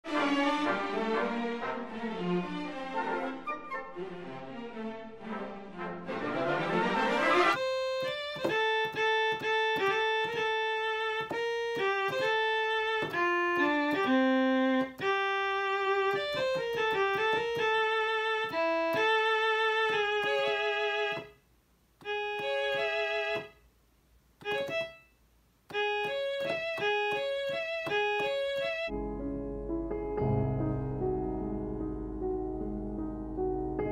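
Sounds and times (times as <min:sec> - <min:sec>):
electronic keyboard melody: 0:00.1 - 0:21.4, 0:22.0 - 0:23.6, 0:24.4 - 0:33.9.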